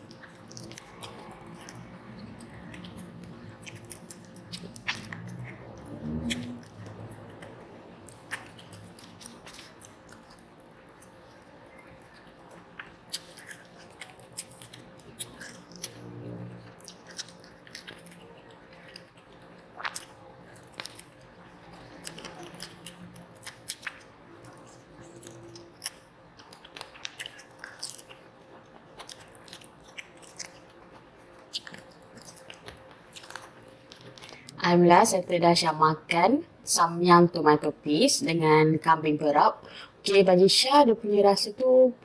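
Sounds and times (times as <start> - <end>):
chewing and biting meat: 0.0 - 34.6.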